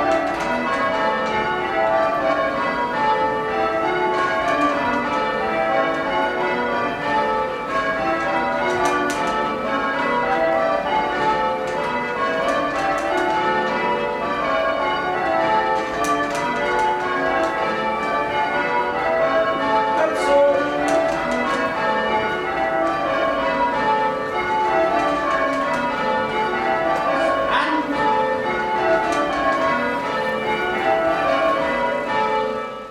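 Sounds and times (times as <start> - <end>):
tower bells change ringing: 0.0 - 32.9.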